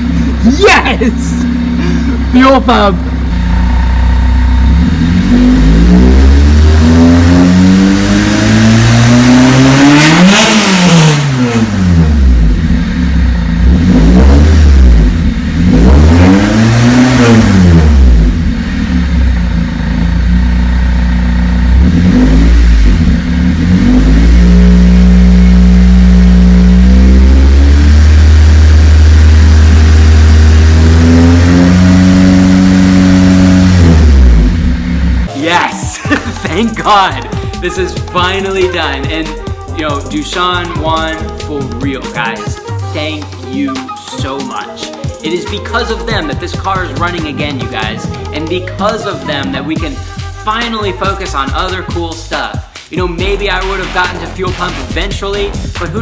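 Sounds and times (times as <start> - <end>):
car engine revving and idling: 0.0 - 35.3, 36.1 - 42.4, 45.3 - 52.2, 53.3 - 56.0.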